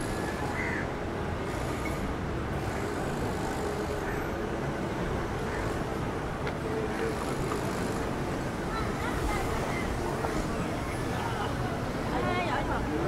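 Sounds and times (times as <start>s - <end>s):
road traffic passing cars: 0.0s - 13.0s.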